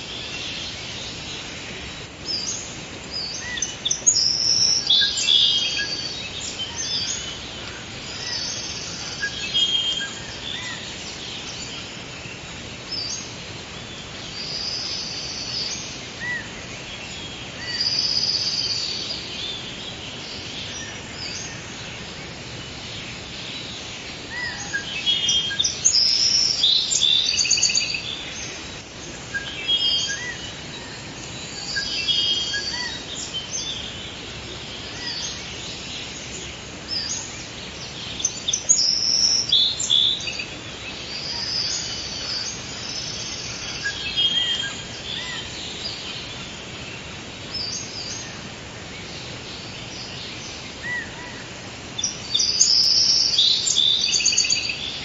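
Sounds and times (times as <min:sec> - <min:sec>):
birds chirping and trilling: 0:00.0 - 0:55.0
steady background hiss: 0:00.0 - 0:55.0.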